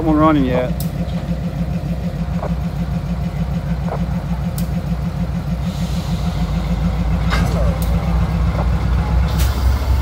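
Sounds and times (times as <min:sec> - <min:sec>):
diesel locomotive engines throbbing: 0:00.0 - 0:10.0.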